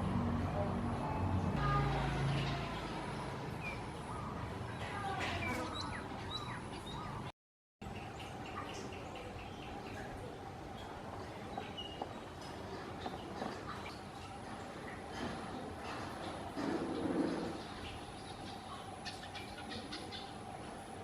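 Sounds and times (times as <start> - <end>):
outdoor background noise: 0.0 - 21.0
small birds chirping: 1.0 - 14.6, 15.8 - 21.0.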